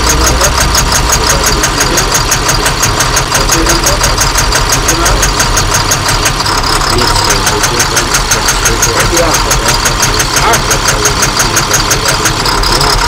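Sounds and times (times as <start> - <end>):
diesel engine idling with knock: 0.0 - 13.0.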